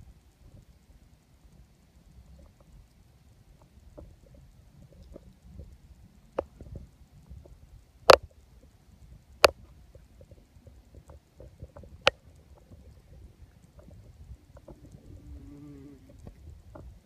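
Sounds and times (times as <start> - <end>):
faint ticks: 0.0 - 17.0.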